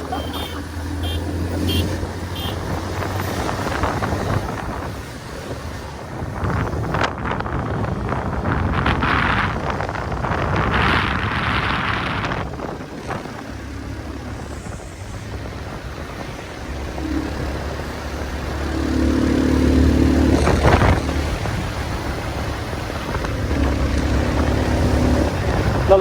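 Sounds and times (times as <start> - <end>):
motorcycle engine running: 0.0 - 10.6, 11.2 - 26.0
wind rushing over microphone: 0.0 - 26.0.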